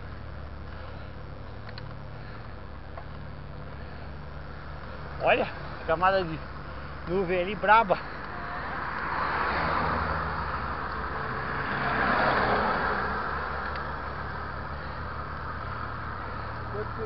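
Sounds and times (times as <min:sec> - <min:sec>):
steady low rumble: 0:00.0 - 0:17.0
tyres hissing on wet asphalt: 0:00.7 - 0:17.0.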